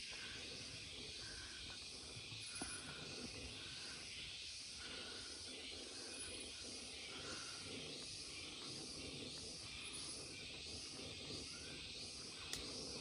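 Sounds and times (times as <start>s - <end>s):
insect chorus hissing and pulsing: 0.0s - 13.0s.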